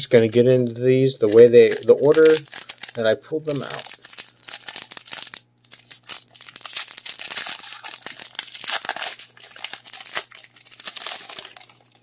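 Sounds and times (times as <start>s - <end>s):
foil wrapper tearing and crinkling: 0.0s - 0.5s, 1.1s - 12.0s.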